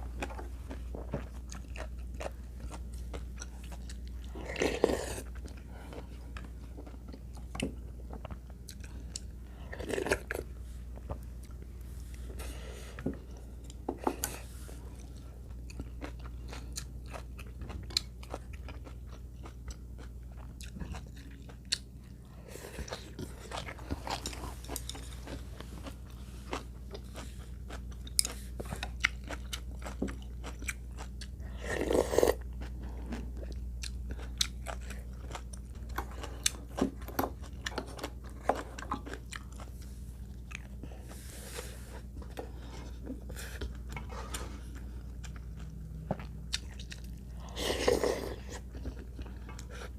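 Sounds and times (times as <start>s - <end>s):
chewing and crunching food: 0.0s - 49.9s
steady low hum: 0.0s - 49.9s.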